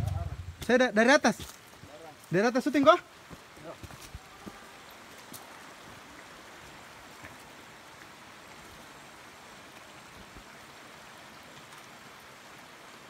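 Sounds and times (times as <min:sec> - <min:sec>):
stream rushing over stones: 0:00.4 - 0:13.0.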